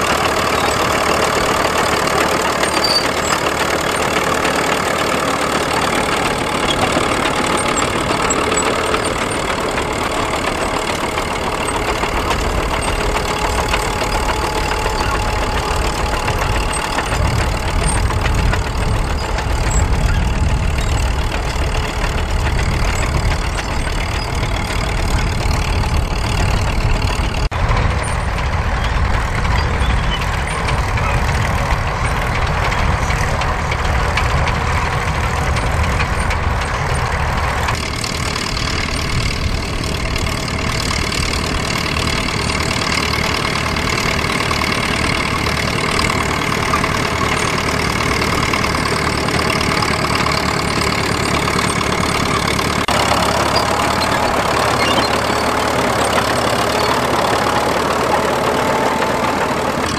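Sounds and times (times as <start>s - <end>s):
crawler tractor engine running: 0.0s - 59.9s.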